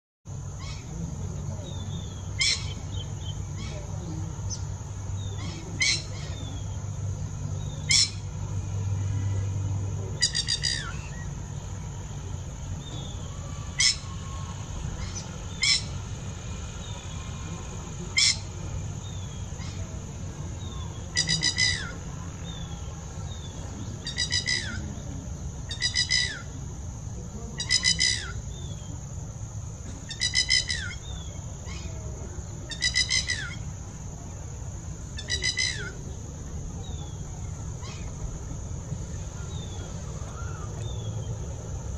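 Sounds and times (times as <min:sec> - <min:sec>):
lapwing calling: 0:00.3 - 0:41.9.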